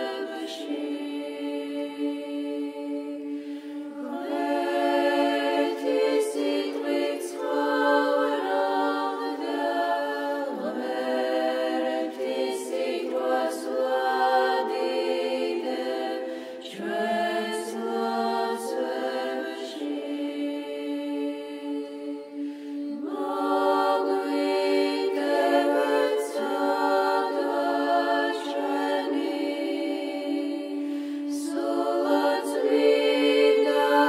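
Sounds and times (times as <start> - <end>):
choir singing unaccompanied chant: 0.0 - 34.0.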